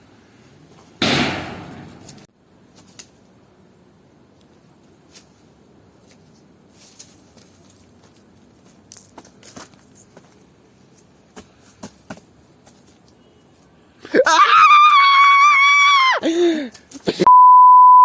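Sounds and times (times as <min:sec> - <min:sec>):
crickets chirring: 0:00.0 - 0:17.2.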